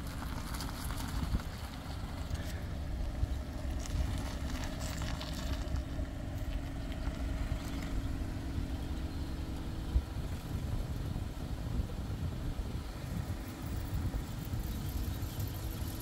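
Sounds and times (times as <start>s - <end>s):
car engine idling: 0.0s - 16.0s
wind rumbling on microphone: 0.0s - 16.0s.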